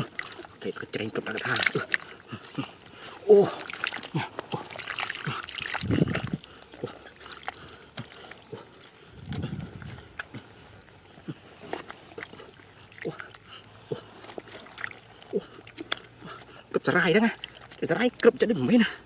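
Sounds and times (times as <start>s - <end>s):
hands splashing in muddy water: 0.0s - 19.0s
small wet clicks: 0.0s - 19.0s
low water slosh: 1.3s - 17.8s.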